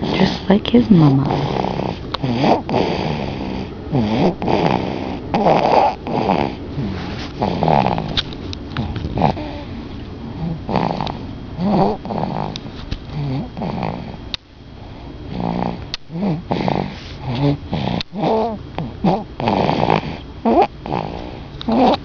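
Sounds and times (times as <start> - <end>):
baby snoring: 0.0 - 8.2, 8.8 - 14.2, 15.0 - 22.0.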